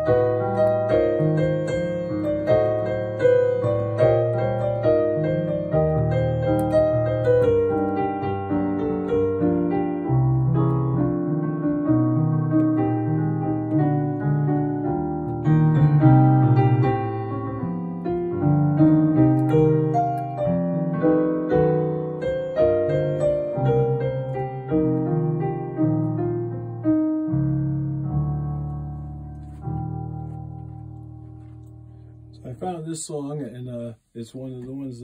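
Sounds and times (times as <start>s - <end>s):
keyboard playing piano chords: 0.0s - 32.8s.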